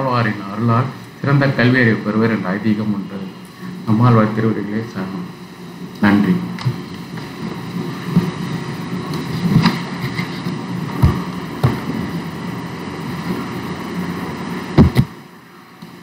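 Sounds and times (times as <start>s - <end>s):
rumbling noise on microphone: 0.0s - 16.0s.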